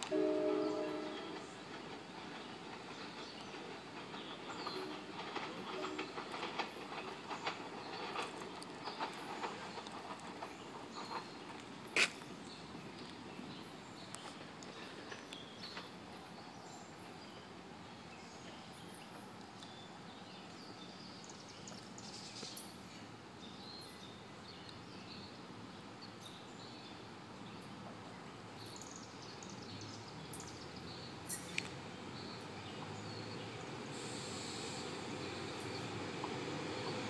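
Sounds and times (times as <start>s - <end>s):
outdoor hush: 0.0s - 37.0s
train rumble: 0.0s - 37.0s
birds chirping: 0.1s - 25.4s, 26.0s - 37.0s.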